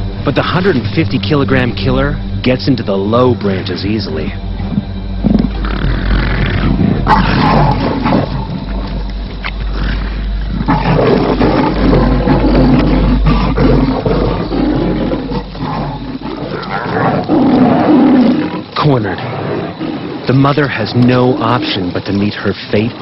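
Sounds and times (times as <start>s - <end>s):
lions growling: 0.0s - 23.0s.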